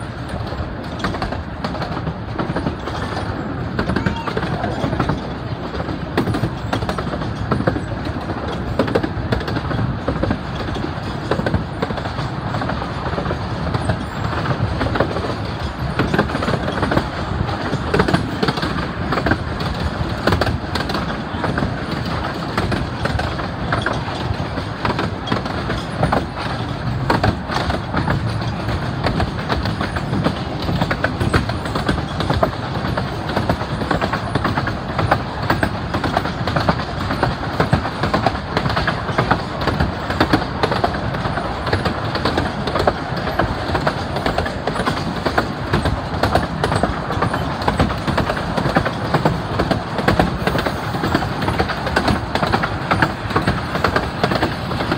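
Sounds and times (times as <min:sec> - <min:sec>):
railway carriages rumbling: 0:00.0 - 0:54.9
wheels clicking on rails: 0:00.0 - 0:54.9.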